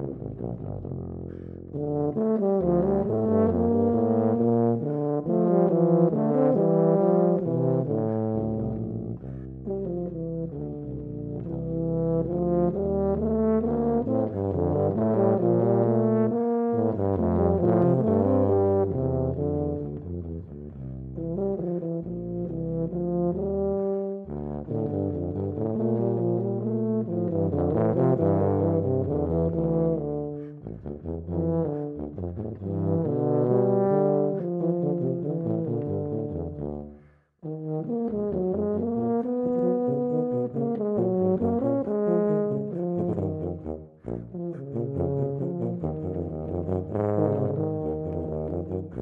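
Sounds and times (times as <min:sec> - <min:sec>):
tubas playing a duet: 0:00.0 - 0:49.0.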